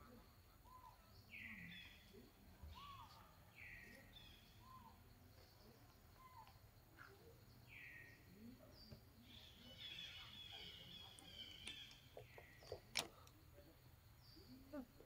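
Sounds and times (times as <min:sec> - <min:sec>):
bird calls: 0:00.0 - 0:15.0.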